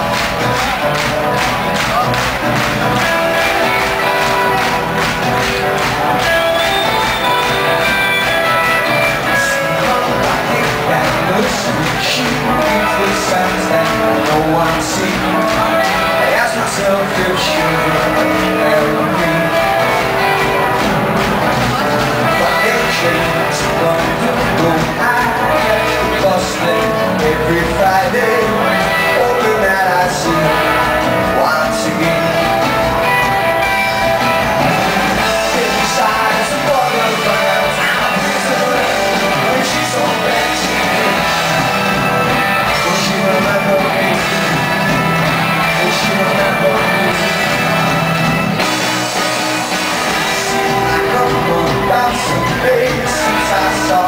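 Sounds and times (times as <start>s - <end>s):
live rock band playing: 0.0s - 54.0s
singer's vocals: 0.0s - 54.0s.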